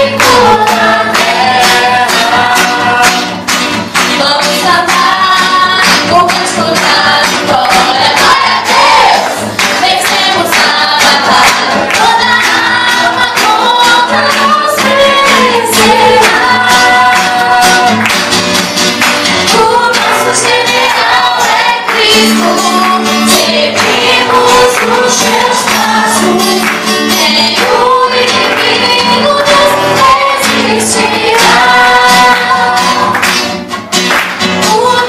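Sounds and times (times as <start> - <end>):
woman singing gospel through pa: 0.0 - 3.3, 4.1 - 9.2, 9.8 - 18.0, 19.5 - 33.2, 34.6 - 35.0.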